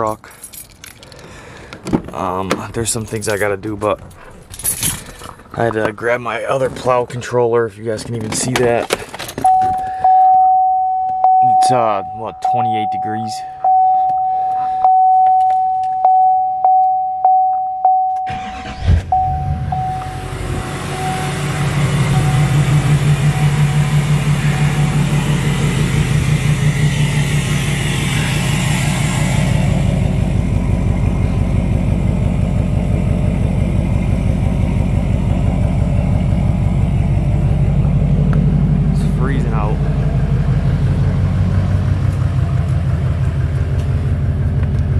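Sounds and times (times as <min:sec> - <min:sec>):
diesel engine cranking and idling: 0:00.0 - 0:15.3, 0:17.9 - 0:44.9.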